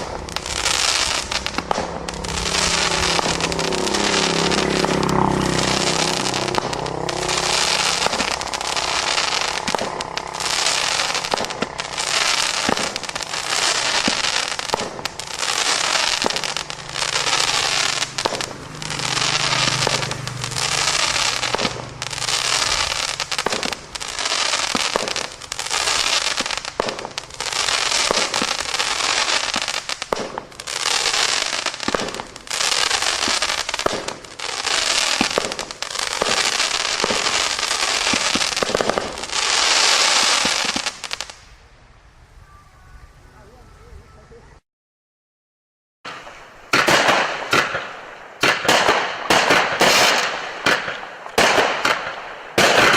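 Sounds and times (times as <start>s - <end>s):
fireworks bangs with hiss: 0.0s - 43.6s, 46.1s - 52.9s.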